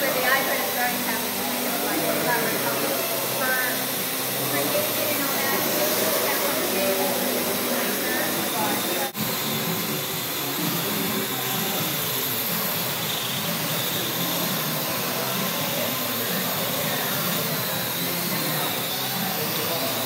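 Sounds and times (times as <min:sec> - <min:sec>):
quadcopter drone whirring: 0:00.0 - 0:20.0.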